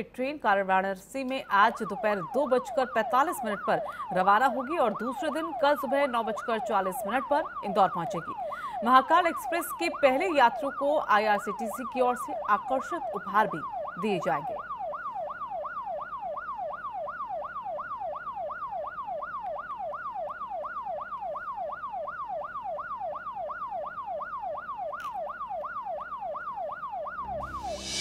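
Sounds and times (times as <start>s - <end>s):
electronic siren yelp: 1.4s - 28.0s.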